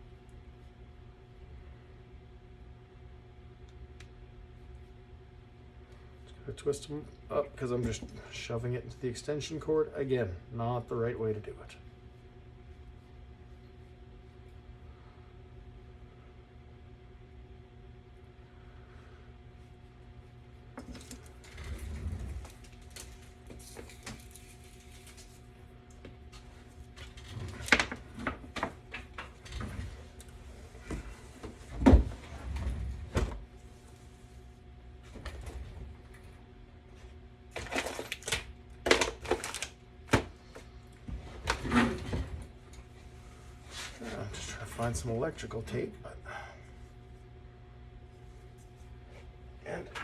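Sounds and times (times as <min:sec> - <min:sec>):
faint electrical hum: 0:00.0 - 0:50.0.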